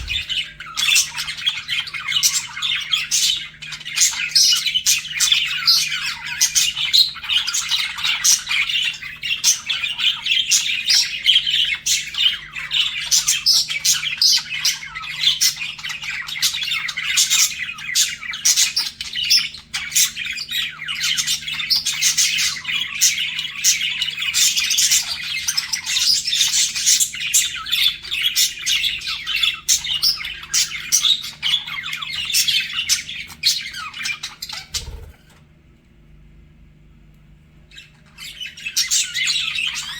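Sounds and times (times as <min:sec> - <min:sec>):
budgerigars chattering: 0:00.0 - 0:35.4.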